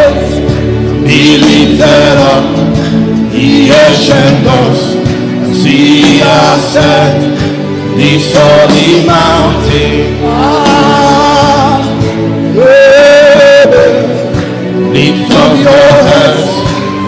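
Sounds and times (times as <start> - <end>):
instrumental accompaniment: 0.0 - 17.0
voices singing gospel song: 0.0 - 17.0.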